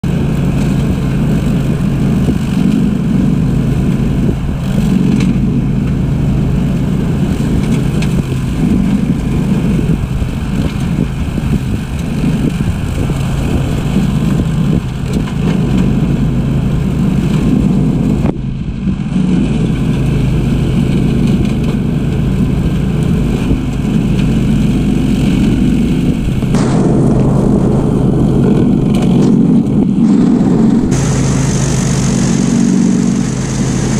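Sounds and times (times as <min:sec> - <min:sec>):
ride-on mower engine droning: 0:00.0 - 0:33.9.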